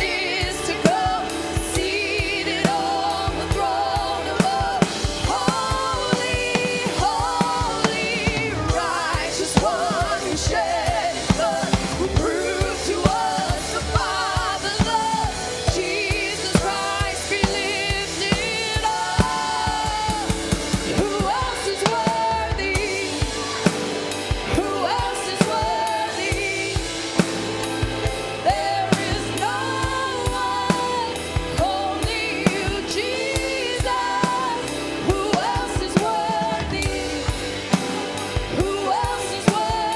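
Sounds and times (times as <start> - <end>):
drum kit beat: 0.0 - 39.9
people singing worship music: 0.0 - 39.9.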